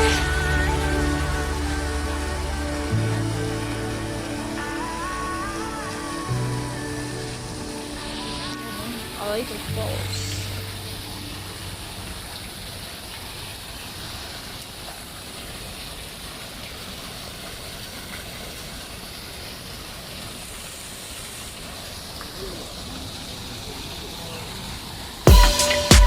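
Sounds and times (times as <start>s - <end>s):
outdoor rushing hiss: 0.0s - 26.0s.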